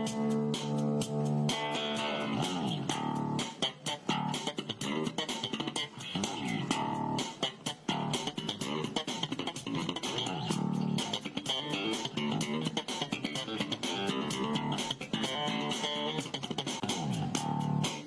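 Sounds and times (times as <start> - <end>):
guitar instrumental music: 0.0 - 18.0.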